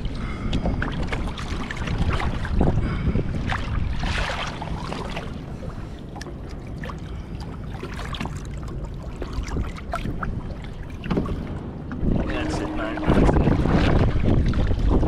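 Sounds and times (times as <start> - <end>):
water trickling and splashing: 0.0 - 15.0
wind rumbling on microphone: 0.0 - 15.0.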